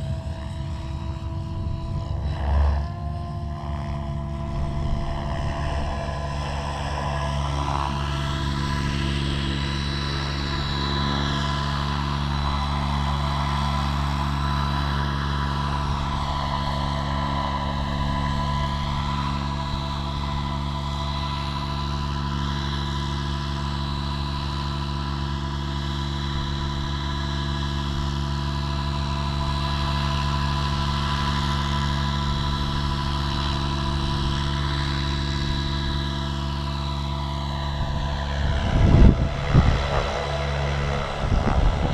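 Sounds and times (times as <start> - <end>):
wind rumbling on microphone: 0.0 - 21.9, 26.1 - 41.9
rc helicopter rotor whine: 0.0 - 41.9.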